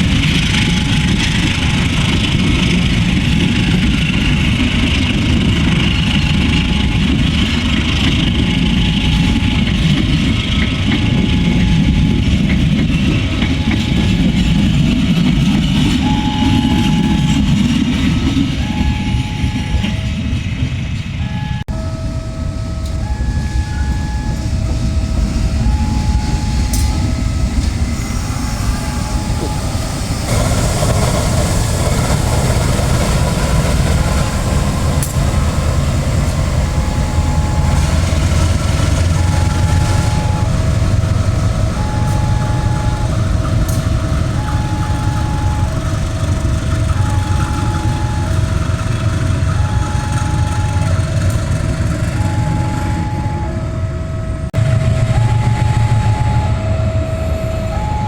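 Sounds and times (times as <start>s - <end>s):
train rumbling past: 0.0s - 58.0s
two-note alternating tone: 5.5s - 20.2s, 21.2s - 30.3s, 34.0s - 58.0s.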